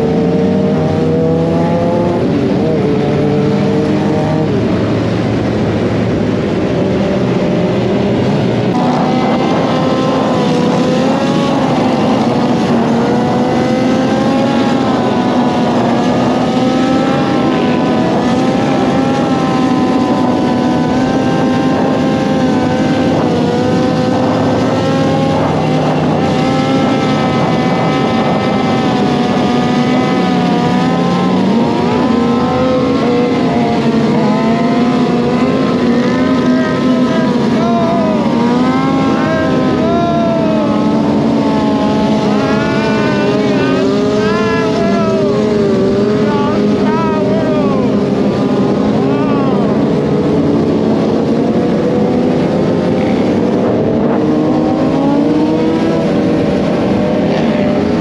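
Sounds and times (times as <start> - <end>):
motorcycle engine revving: 0.0 - 58.0
steady rush of noise: 0.0 - 58.0.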